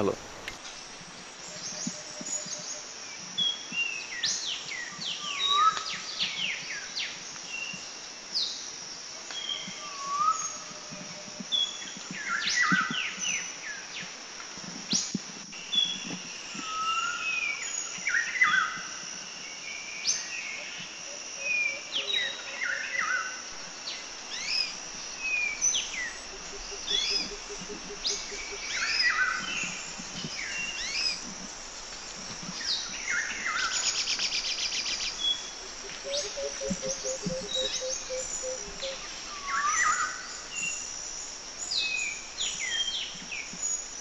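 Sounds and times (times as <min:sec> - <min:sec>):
forest birds chirping: 0:00.0 - 0:14.2, 0:15.0 - 0:44.0
steady high hiss: 0:00.0 - 0:44.0.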